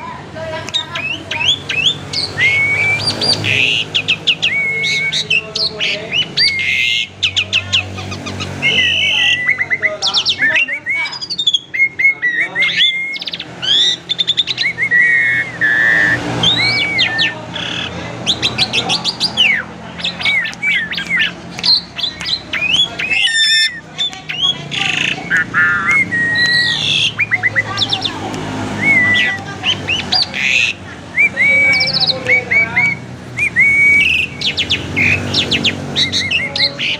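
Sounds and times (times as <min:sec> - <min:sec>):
starling singing varied song: 0:00.0 - 0:36.9.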